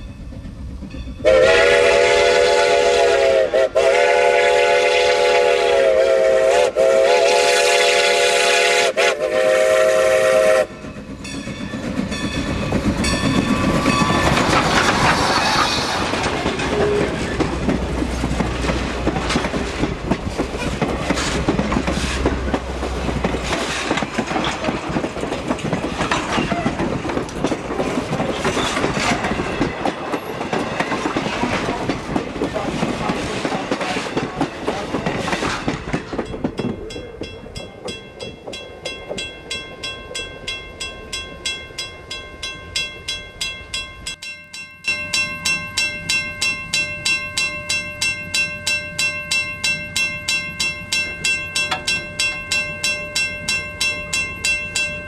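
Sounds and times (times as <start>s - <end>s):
railroad crossing bell ringing: 0.0s - 3.8s, 9.5s - 14.9s, 16.2s - 55.0s
train wheels clicking over rail joints: 0.0s - 5.5s, 6.1s - 41.2s, 43.0s - 55.0s.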